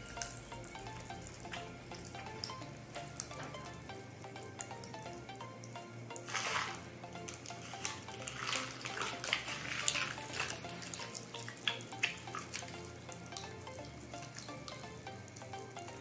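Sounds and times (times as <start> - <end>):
popping candy crackling: 0.0 - 16.0.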